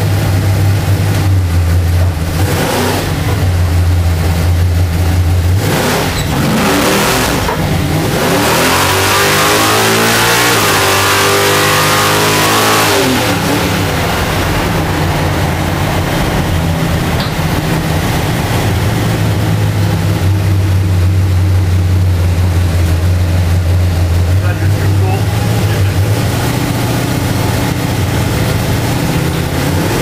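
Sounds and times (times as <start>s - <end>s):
van engine accelerating: 0.0s - 30.0s.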